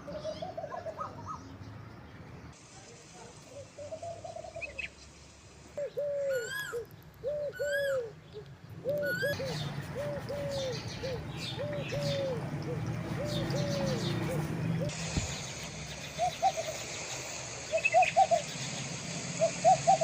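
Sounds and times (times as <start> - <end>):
doves cooing: 0.0 - 1.5, 3.5 - 4.9, 5.7 - 15.2, 15.9 - 20.0.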